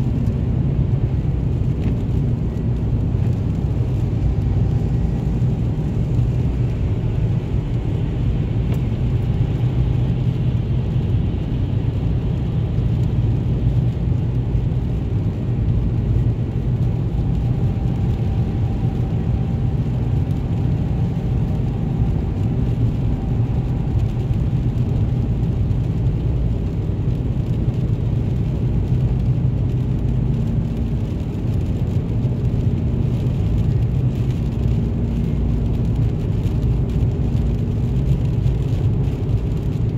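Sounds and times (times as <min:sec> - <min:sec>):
low engine hum: 0:00.0 - 0:39.9
tyres rumbling on wet pavement: 0:00.0 - 0:39.9.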